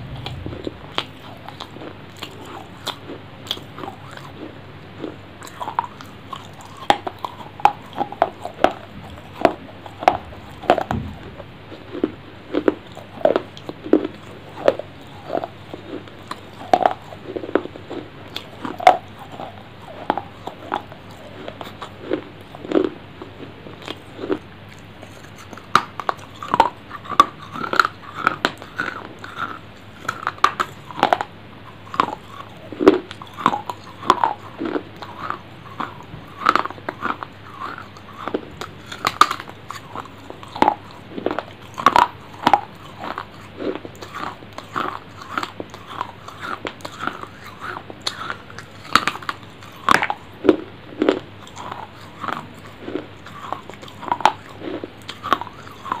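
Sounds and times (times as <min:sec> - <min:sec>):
chewing crunchy food: 0:00.0 - 0:56.0.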